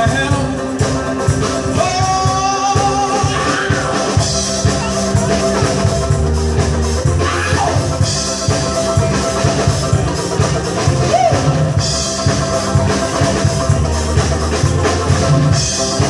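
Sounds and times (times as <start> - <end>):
drum kit beat: 0.0 - 16.0
live band playing: 0.0 - 16.0.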